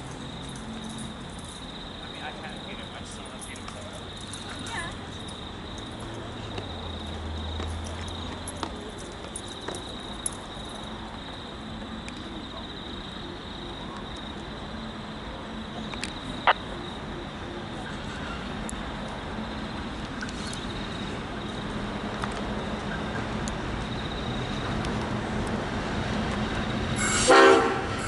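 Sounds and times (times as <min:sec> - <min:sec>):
insects chirring: 0:00.0 - 0:24.9.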